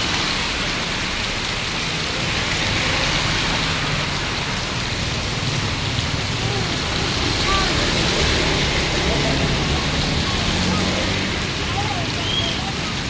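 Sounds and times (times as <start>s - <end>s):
rain pattering on surfaces: 0.0s - 13.0s.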